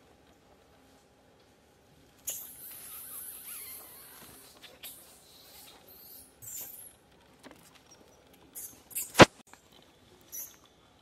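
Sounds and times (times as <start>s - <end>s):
faint rustles and clicks: 0.0s - 11.0s.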